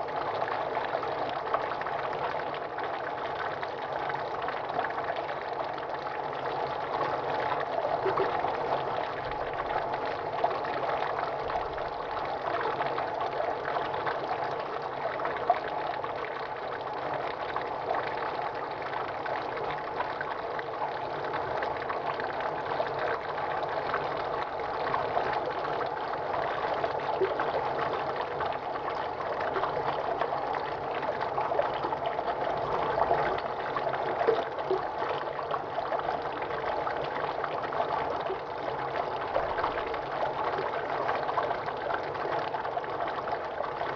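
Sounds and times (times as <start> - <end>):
water running in a stream: 0.0 - 43.9.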